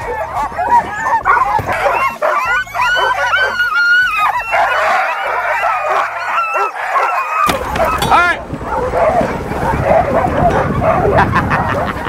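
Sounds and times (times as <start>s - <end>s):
sled dogs barking and yipping: 0.0s - 12.0s.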